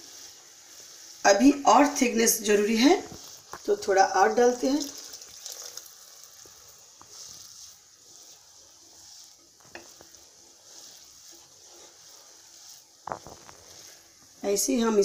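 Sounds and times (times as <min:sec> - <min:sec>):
soup bubbling: 0:00.0 - 0:15.0
steam hissing: 0:00.0 - 0:15.0.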